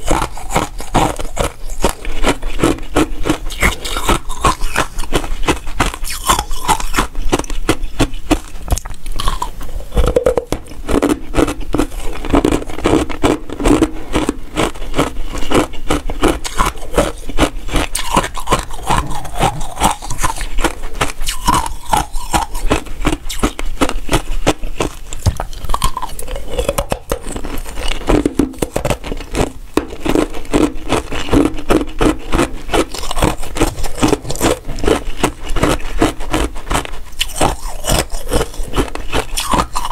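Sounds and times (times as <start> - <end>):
ice being bitten and crunched: 0.0 - 39.9.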